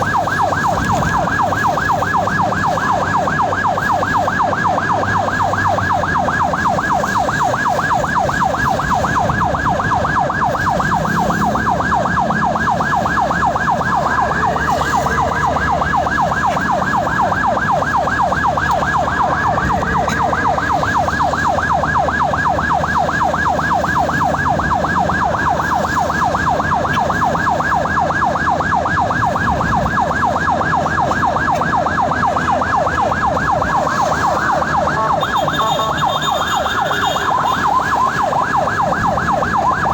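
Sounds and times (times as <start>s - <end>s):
ambulance siren yelping: 0.0s - 39.9s
vehicle engine rumble: 0.0s - 39.9s.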